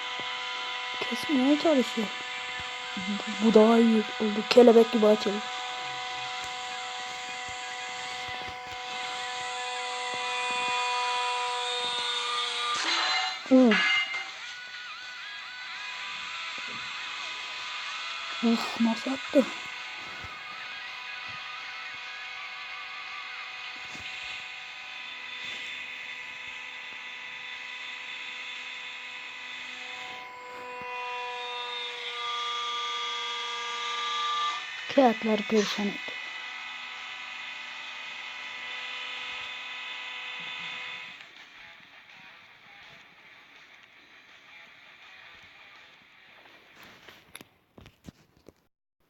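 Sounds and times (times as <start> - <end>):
hydraulic press pump whine: 0.0 - 41.5.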